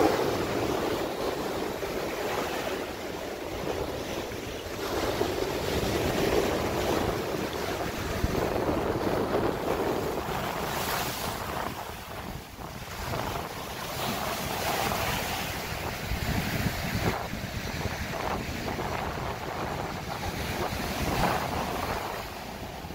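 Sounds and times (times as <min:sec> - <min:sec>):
small waves breaking on beach: 0:00.0 - 0:22.9.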